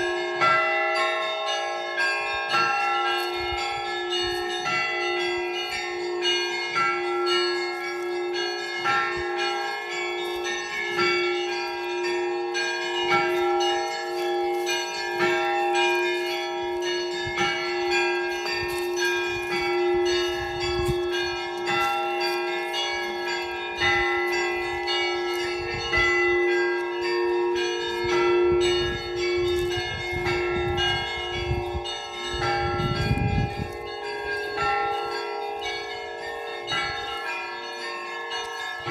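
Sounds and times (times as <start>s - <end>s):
church bells pealing: 0.0s - 38.9s
deep bell humming: 0.0s - 38.9s.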